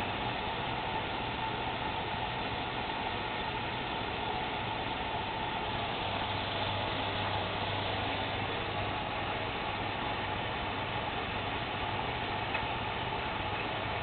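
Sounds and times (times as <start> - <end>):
washing machine and dryer whirring: 0.0 - 14.0.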